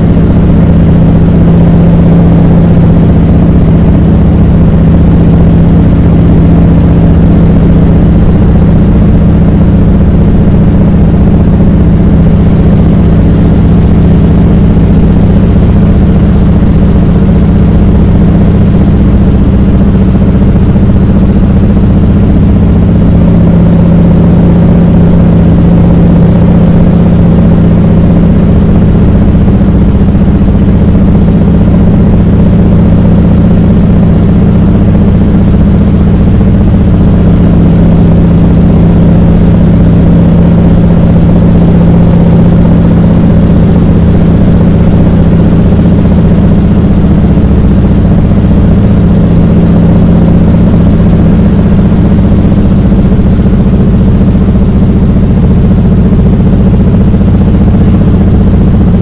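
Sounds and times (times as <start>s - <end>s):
airplane engine drone in cabin: 0.0s - 59.0s.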